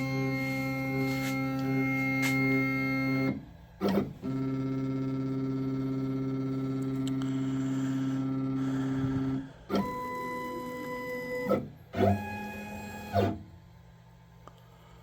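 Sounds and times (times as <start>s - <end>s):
stepper motor whine: 0.0s - 13.6s.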